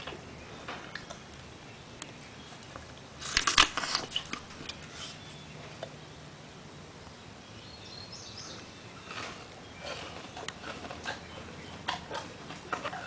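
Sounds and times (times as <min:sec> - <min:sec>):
soft chewing crunches: 0:00.0 - 0:06.0, 0:08.4 - 0:13.0
low steady hum: 0:00.0 - 0:13.0.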